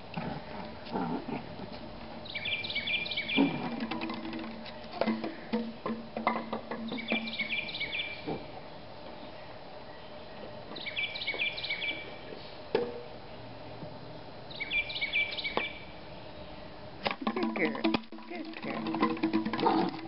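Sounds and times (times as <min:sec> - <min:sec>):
outdoor background noise: 0:00.0 - 0:20.0
songbird singing: 0:01.6 - 0:20.0.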